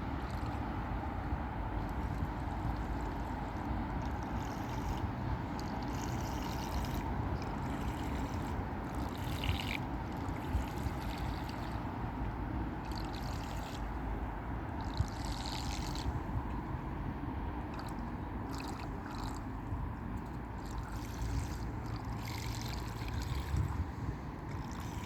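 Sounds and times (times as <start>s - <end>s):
toy boat motor rumble: 0.0s - 16.6s, 17.7s - 25.0s
water splashing and trickling: 0.0s - 25.0s.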